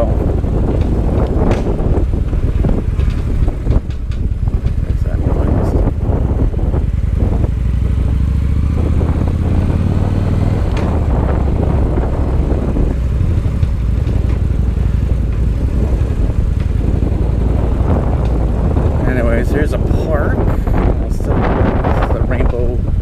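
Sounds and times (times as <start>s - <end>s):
motorcycle engine rumble: 0.0s - 23.0s.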